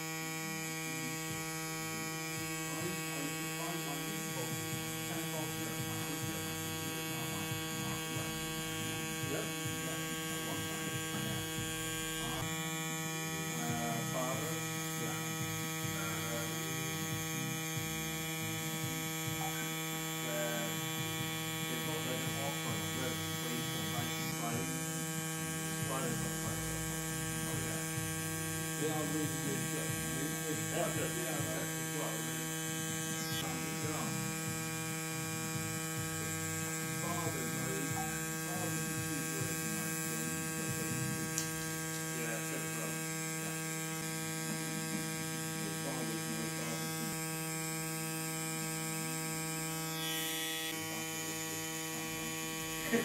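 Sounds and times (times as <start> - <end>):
tattoo pen electric hum: 0.0 - 53.0.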